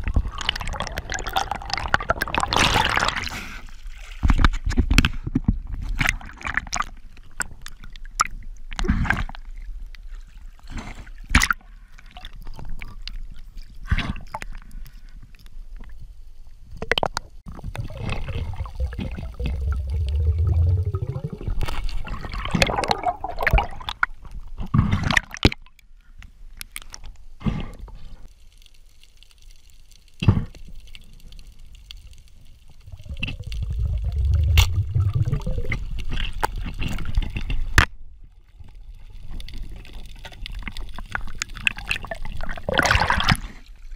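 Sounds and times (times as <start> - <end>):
sea water splashing and gurgling: 0.0 - 5.0, 5.8 - 14.7, 16.8 - 25.7, 30.8 - 43.9.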